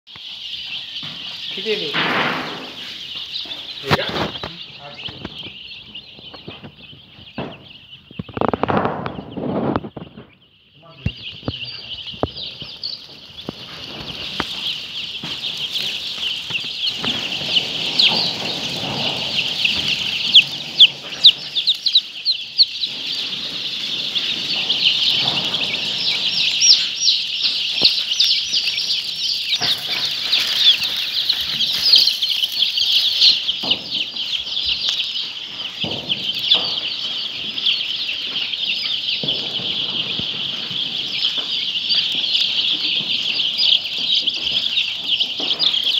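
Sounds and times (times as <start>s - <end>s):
flock of poultry calling: 0.1s - 45.9s.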